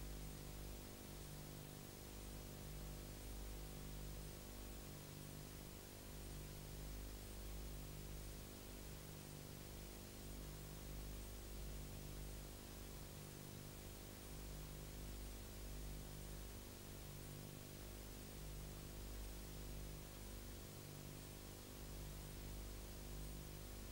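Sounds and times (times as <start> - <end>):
faint steady hiss: 0.0 - 23.9
low electrical hum: 0.0 - 23.9.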